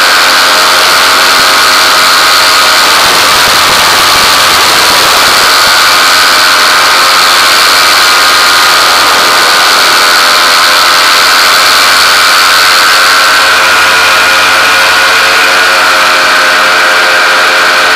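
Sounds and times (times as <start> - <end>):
engine drone with high whine: 0.0 - 17.9.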